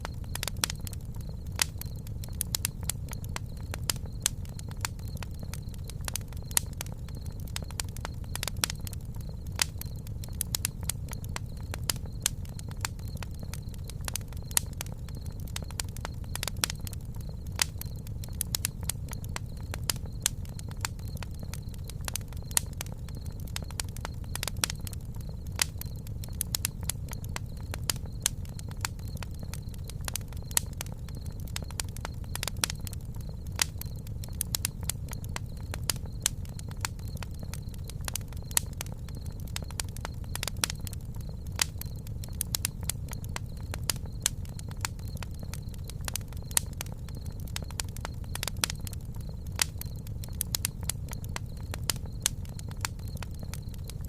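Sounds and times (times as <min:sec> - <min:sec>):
campfire crackling and popping: 0:00.0 - 0:54.0
low rumble of burning: 0:00.0 - 0:54.0.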